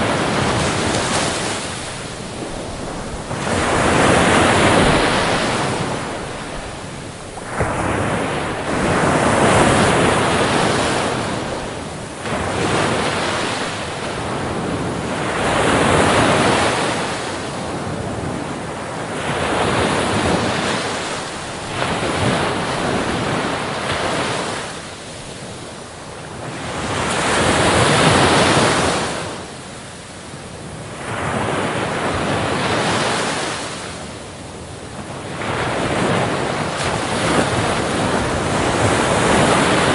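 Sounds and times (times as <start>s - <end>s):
waves washing in and out: 0.0s - 39.9s.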